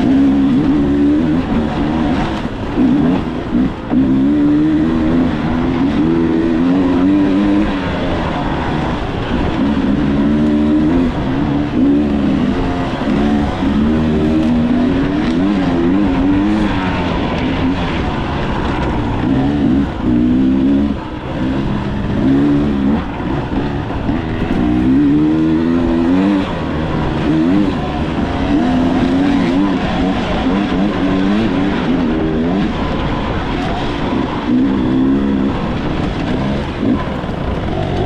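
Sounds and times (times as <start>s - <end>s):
dirt bike engine revving: 0.0s - 38.0s
steady rushing noise: 0.0s - 38.0s.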